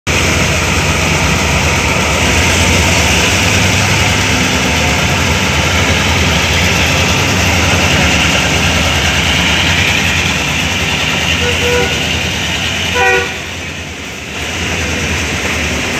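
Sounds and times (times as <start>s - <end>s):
locomotive engine drone: 0.1s - 15.9s
train hiss on track: 0.1s - 15.9s.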